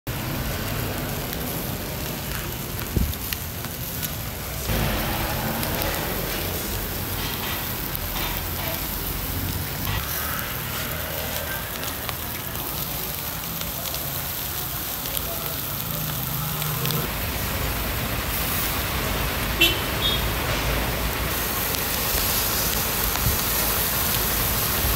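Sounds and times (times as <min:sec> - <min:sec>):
meat sizzling on a grill: 0:00.1 - 0:24.9.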